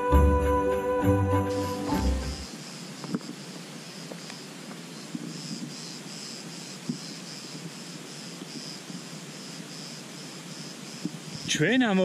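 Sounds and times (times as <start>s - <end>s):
insects chirping: 1.4s - 12.0s.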